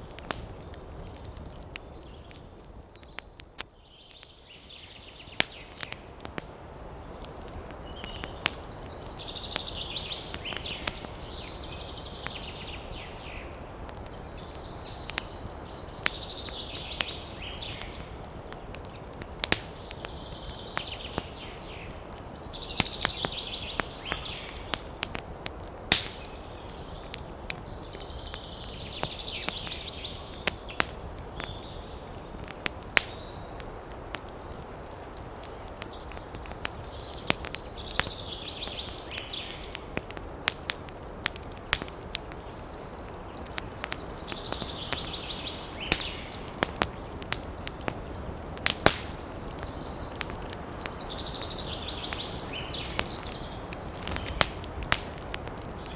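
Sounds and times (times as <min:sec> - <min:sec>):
campfire crackling: 0:00.0 - 0:55.9
wind through trees: 0:00.0 - 0:55.9.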